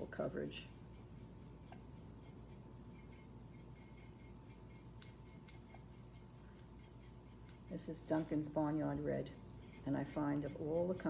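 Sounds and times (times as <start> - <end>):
low steady hum: 0.0 - 11.0
paintbrush strokes on ceramic: 0.0 - 11.0.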